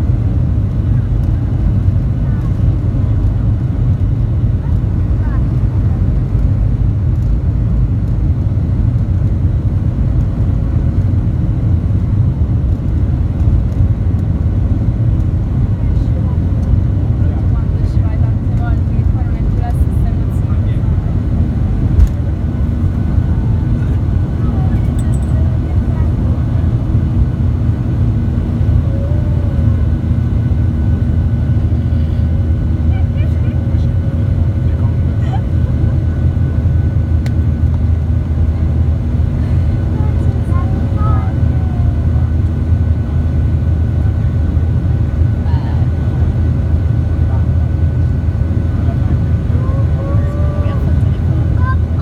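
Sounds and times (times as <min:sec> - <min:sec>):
jet engine rumble in cabin: 0:00.0 - 0:52.0.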